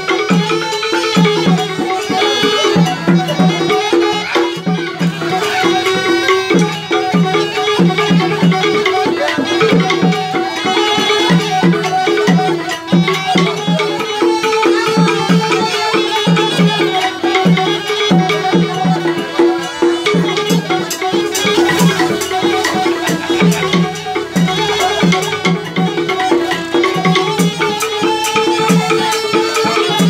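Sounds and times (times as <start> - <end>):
bamboo flutes playing melody: 0.0 - 30.0
wooden xylophone: 0.0 - 30.0.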